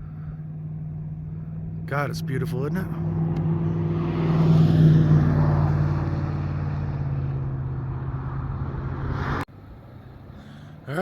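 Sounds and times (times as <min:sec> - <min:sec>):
car engine: 0:00.0 - 0:11.0
road noise inside car: 0:00.0 - 0:11.0.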